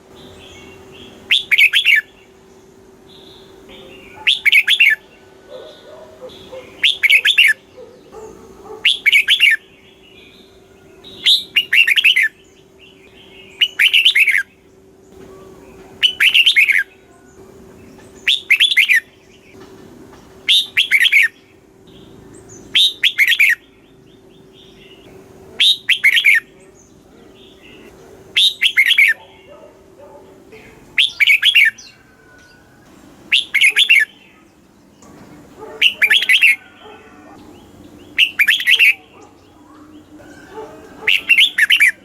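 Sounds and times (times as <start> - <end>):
faint steady hum: 0.0 - 42.0
bird singing bubbly phrases: 0.2 - 2.3, 3.2 - 8.1, 8.8 - 14.7, 15.3 - 17.3, 18.2 - 19.4, 20.4 - 29.6, 30.5 - 32.0, 33.3 - 35.0, 35.8 - 42.0.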